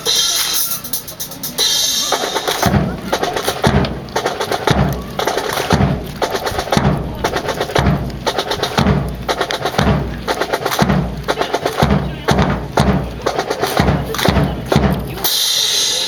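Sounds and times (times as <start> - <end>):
snare drum strokes: 0.0 - 16.0
bass drum beat: 1.0 - 15.3.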